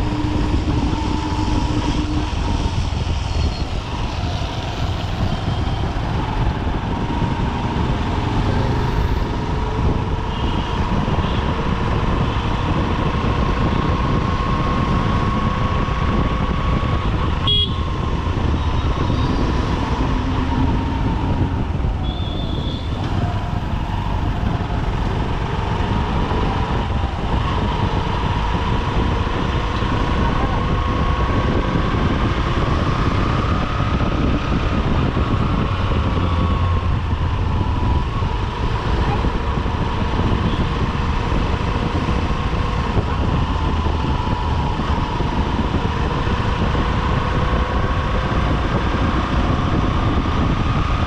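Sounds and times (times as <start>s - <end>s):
road and wind noise: 0.0s - 51.0s.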